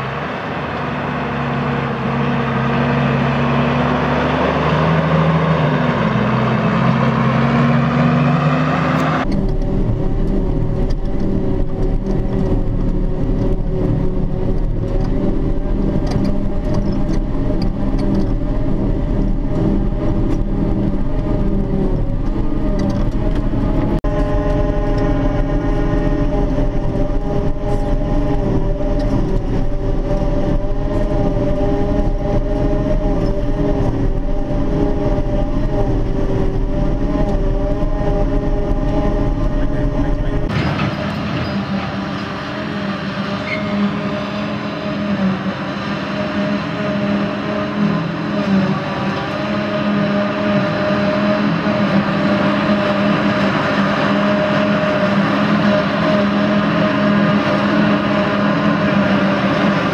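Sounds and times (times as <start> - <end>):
forage harvester droning: 0.0 - 59.9
tractor: 0.0 - 59.9.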